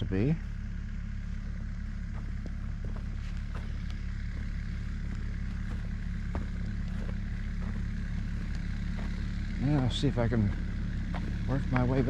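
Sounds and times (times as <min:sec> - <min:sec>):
excavator engine idling: 0:00.0 - 0:12.0.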